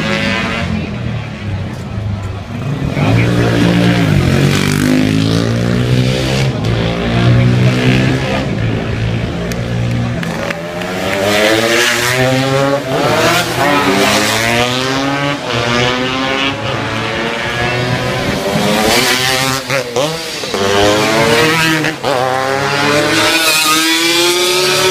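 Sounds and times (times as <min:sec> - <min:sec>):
racing motorcycles accelerating: 0:00.0 - 0:24.9.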